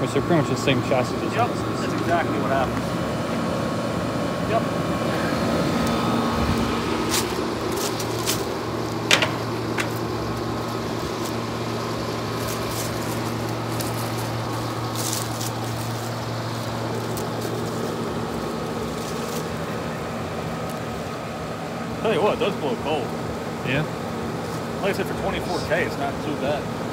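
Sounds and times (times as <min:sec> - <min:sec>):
air conditioner fan rushing: 0:00.0 - 0:26.9
air conditioner hum: 0:00.0 - 0:26.9.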